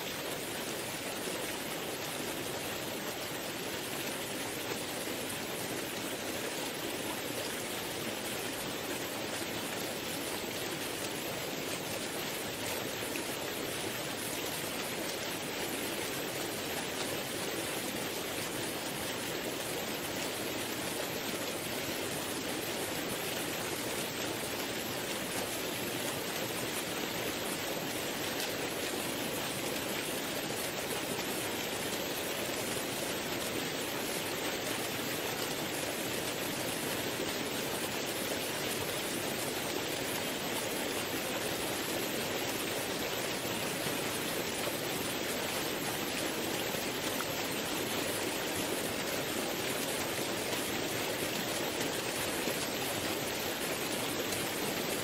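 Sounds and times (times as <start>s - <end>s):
waterfall and rushing rapids: 0.0s - 55.0s.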